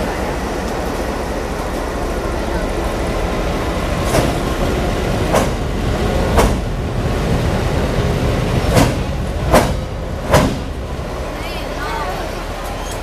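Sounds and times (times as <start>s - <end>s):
locomotive rumbling: 0.0s - 13.0s.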